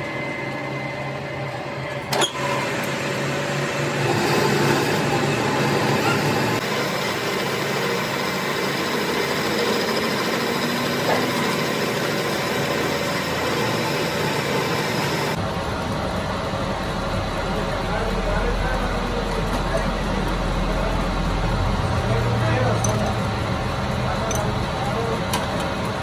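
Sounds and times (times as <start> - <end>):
workshop machine running: 0.0 - 26.0.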